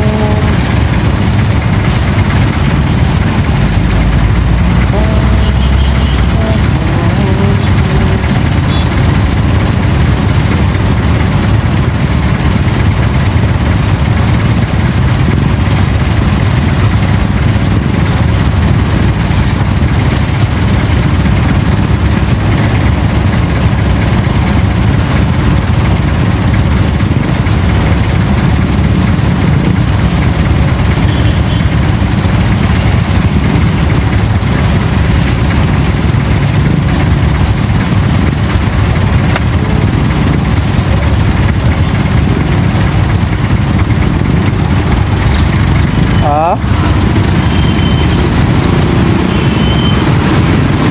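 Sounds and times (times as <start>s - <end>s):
vehicle engines idling: 0.0s - 50.9s.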